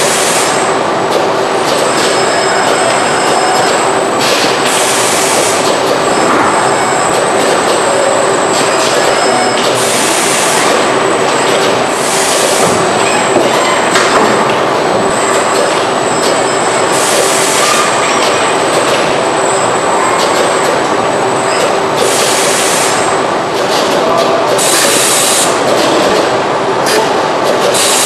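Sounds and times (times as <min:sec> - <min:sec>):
assembly line mechanical noise: 0:00.0 - 0:28.0.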